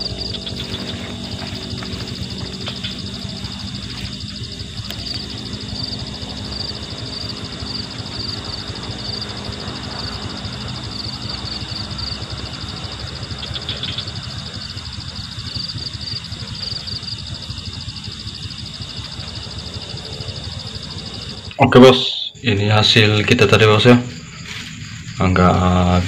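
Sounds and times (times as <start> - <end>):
night insects trilling: 0.0 - 26.0
steady low rumbling noise: 0.0 - 26.0.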